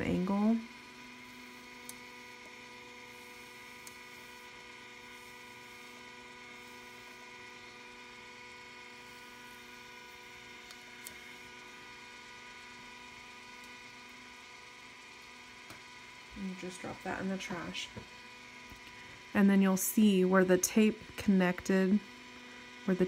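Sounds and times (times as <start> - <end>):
small motor humming: 0.0 - 23.0.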